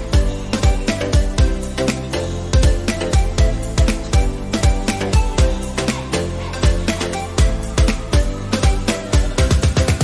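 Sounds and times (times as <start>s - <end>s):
kick drum beat: 0.0s - 5.8s, 6.6s - 10.0s.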